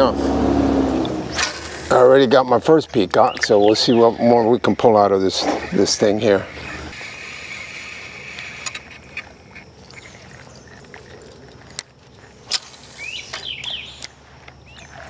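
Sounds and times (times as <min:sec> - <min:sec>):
bird chirping: 0:02.6 - 0:15.0.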